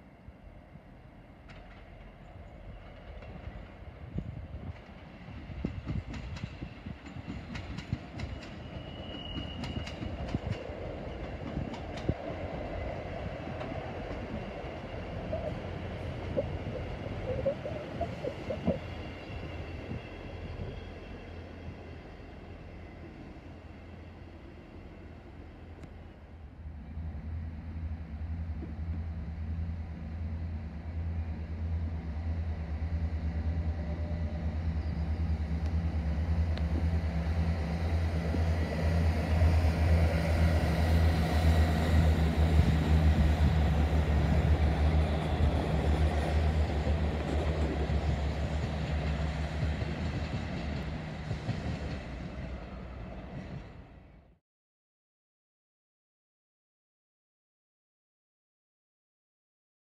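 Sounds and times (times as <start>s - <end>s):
train engine drone: 0.0s - 54.4s
train wheel and rail noise: 0.0s - 54.4s.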